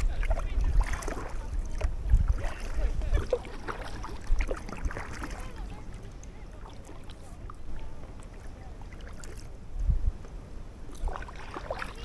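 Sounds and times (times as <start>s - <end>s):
water trickling off paddles: 0.0s - 12.0s
wind rumble on microphone: 0.0s - 12.0s.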